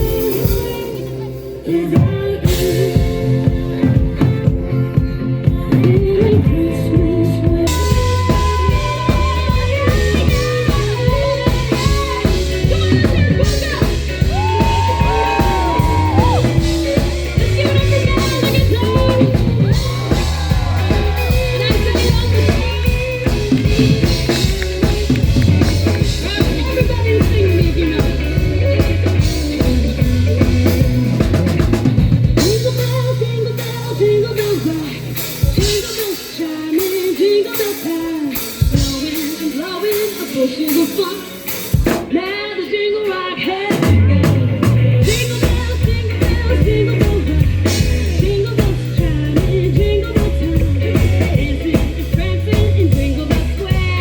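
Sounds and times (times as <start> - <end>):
drum kit and bass beat: 0.0 - 42.4, 43.6 - 54.0
person singing: 0.0 - 54.0.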